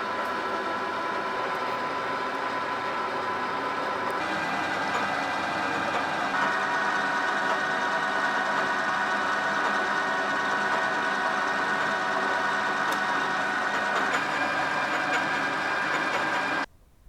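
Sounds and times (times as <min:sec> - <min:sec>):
metal lathe whining: 0:00.0 - 0:16.7.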